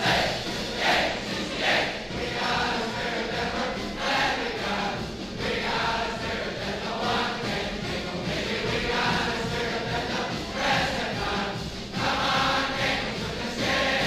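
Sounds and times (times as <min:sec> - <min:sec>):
male choir singing on old record: 0:00.0 - 0:14.0.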